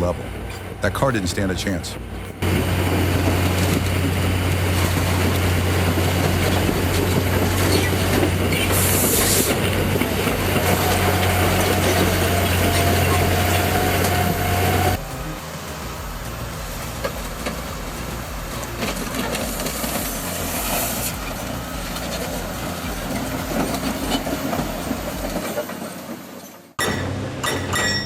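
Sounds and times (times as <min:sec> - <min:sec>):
heavy machinery hum and grinding: 0:00.0 - 0:28.0
thin whine: 0:00.0 - 0:28.0.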